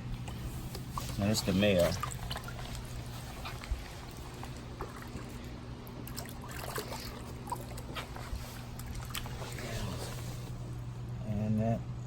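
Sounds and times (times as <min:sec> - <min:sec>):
steady low hum: 0:00.0 - 0:12.0
water trickling and splashing: 0:00.2 - 0:10.4.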